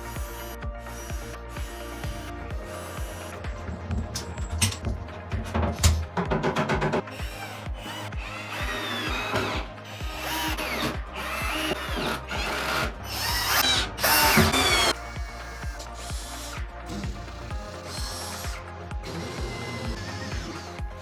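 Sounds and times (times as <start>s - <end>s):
power drill whining: 0.0s - 21.0s.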